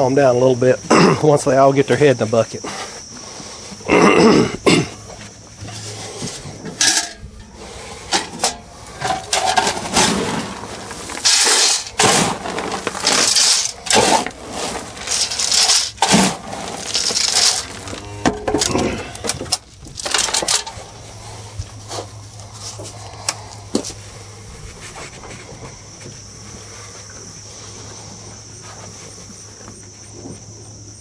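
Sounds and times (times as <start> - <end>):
cattle clattering feed buckets: 0.0 - 30.9.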